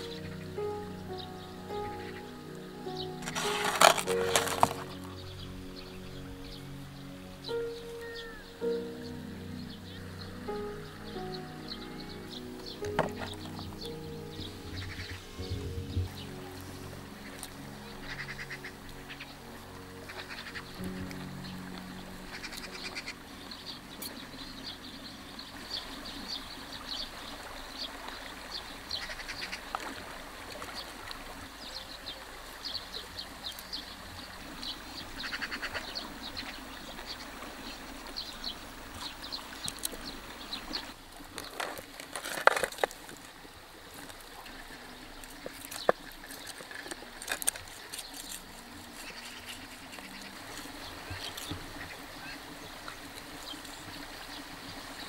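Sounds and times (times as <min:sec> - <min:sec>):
birds chirping: 0:00.0 - 0:30.0, 0:30.6 - 0:41.7, 0:44.4 - 0:55.0
river rushing: 0:00.0 - 0:55.0.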